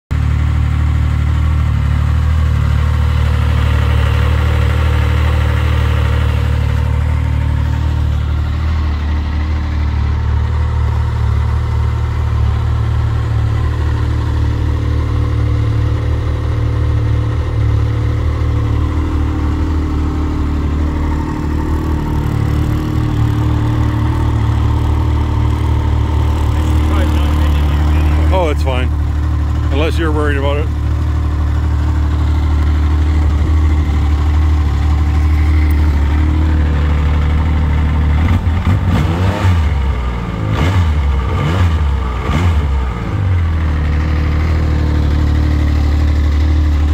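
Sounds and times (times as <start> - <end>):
snowmobile engine idling: 0.1 - 38.9, 39.6 - 46.9.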